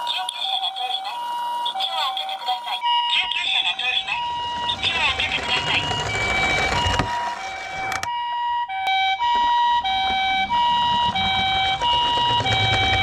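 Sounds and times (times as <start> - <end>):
two-tone ambulance siren: 0.0 - 13.0.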